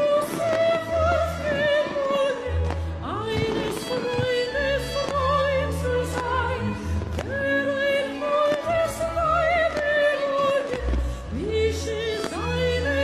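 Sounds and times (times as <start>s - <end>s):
orchestral backing music: 0.0s - 13.0s
woman singing operatically: 0.0s - 13.0s.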